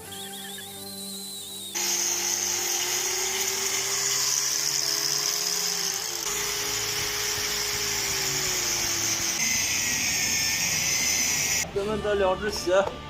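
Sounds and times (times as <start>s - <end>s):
electric grinder whining on sole: 0.1s - 11.6s.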